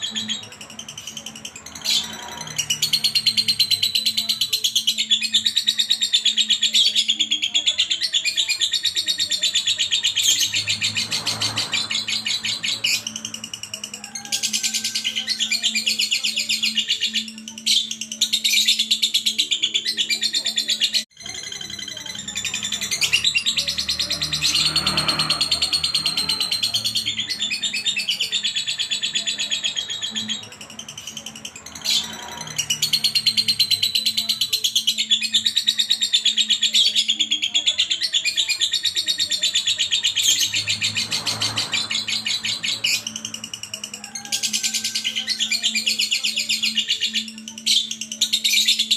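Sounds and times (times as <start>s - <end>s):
bird chirping rapidly: 0.0s - 48.9s.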